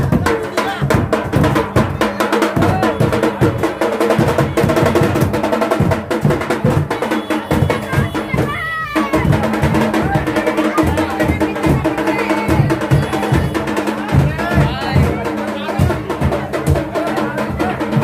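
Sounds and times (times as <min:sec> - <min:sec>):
crowd voices: 0:00.0 - 0:18.0
rapid procession drumming: 0:00.0 - 0:18.0.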